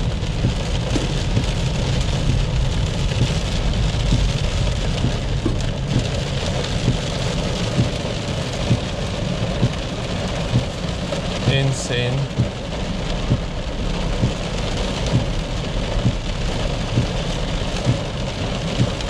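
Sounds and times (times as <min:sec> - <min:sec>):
car low rumble: 0:00.0 - 0:19.0
heavy rain on a car roof: 0:00.0 - 0:19.0.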